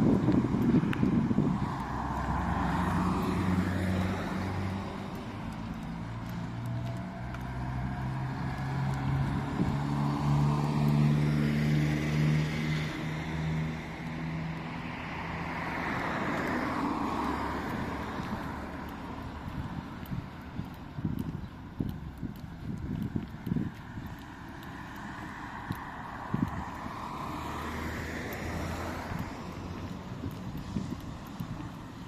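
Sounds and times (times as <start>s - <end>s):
vehicles passing by: 0.0s - 32.0s.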